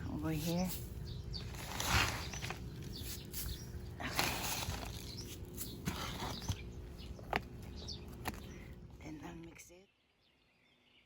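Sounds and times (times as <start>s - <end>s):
rustling in garden soil: 0.0s - 9.6s.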